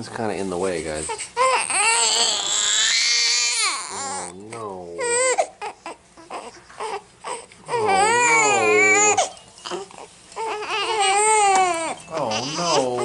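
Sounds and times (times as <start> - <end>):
baby crying: 1.0 - 13.0.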